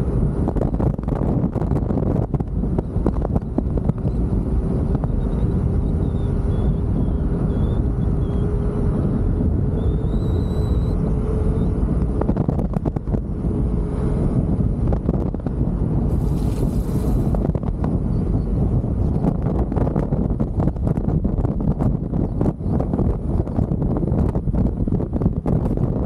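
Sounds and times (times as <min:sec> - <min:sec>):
hub motor whine: 0:00.0 - 0:26.0
wind rushing over microphone: 0:00.0 - 0:26.0.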